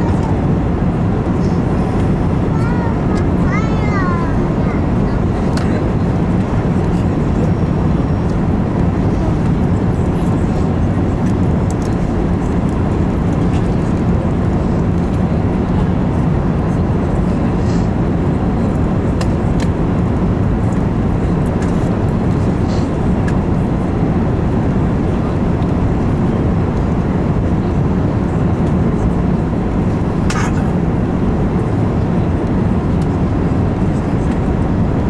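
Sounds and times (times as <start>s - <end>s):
aircraft cabin engine rumble: 0.0s - 35.0s.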